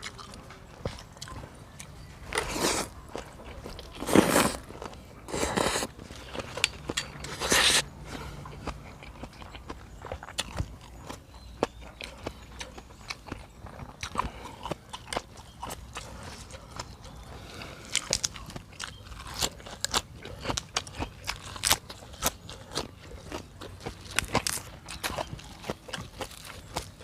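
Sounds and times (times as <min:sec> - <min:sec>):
person chewing and crunching food: 0:00.0 - 0:27.0.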